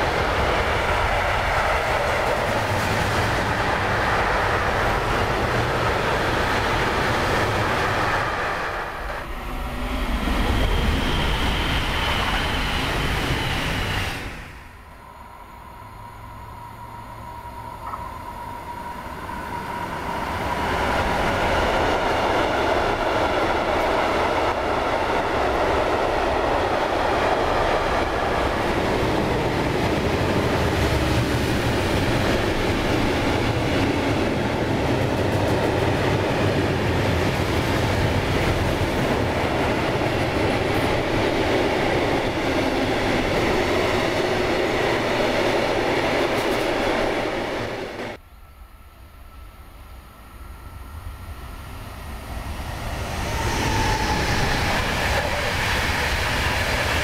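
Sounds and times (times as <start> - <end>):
freight train rumbling and clattering: 0.0 - 14.6, 17.8 - 48.2, 51.3 - 57.0.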